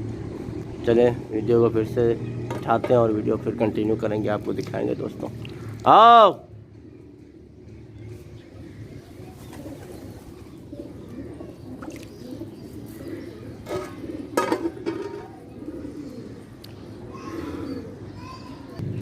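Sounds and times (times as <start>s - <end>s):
pigeons cooing: 0.0s - 5.8s, 6.6s - 19.0s.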